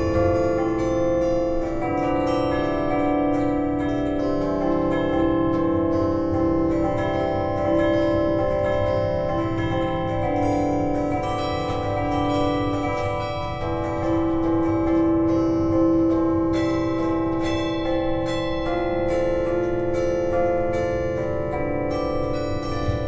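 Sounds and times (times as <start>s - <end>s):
ringing bell-like music: 0.0s - 23.0s
slow instrumental melody: 0.0s - 23.0s.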